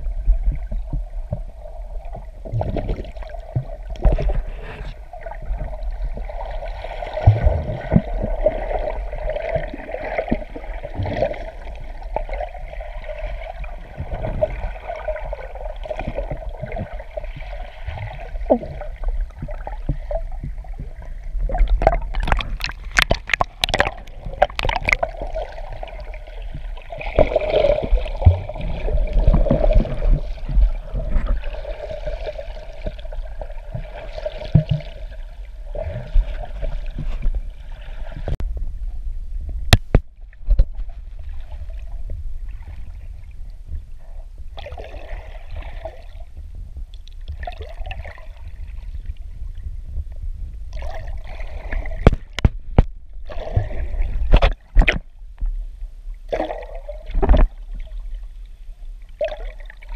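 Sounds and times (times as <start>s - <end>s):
steady low rumble: 0.0s - 56.3s
water gurgling and sloshing: 0.0s - 59.9s.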